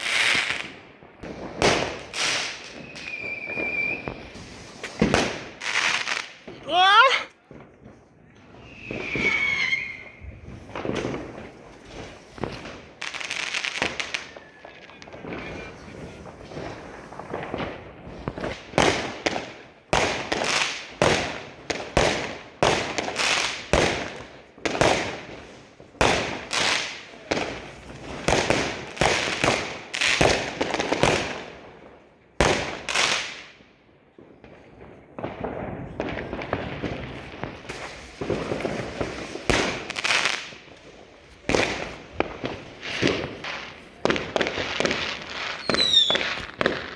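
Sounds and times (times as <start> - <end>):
fireworks and firecrackers banging: 0.0 - 46.9.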